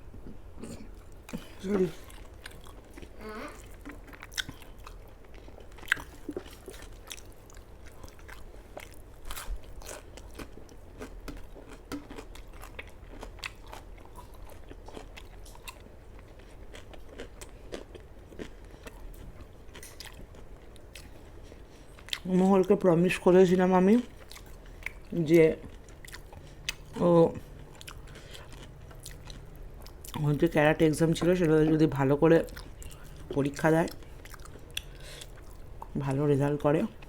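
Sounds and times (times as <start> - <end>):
person chewing food: 0.1 - 22.3, 24.0 - 30.4, 31.0 - 36.1.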